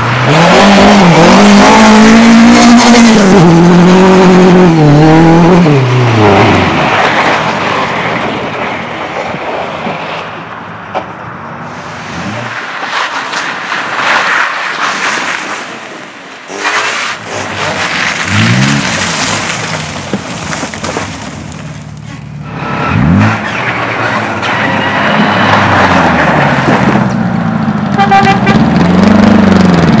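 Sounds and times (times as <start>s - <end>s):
rush of tyre and engine noise: 0.0s - 30.0s.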